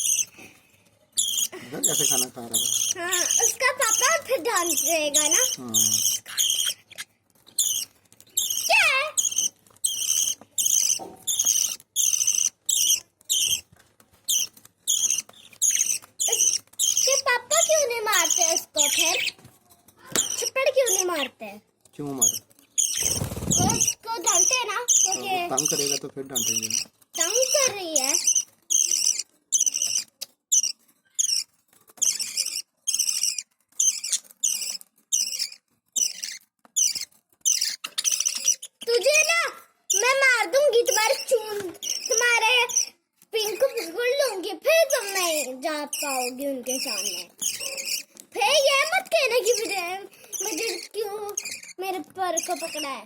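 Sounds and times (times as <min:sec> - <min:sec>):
parrots chirping: 0:00.0 - 0:21.4, 0:22.0 - 0:53.0.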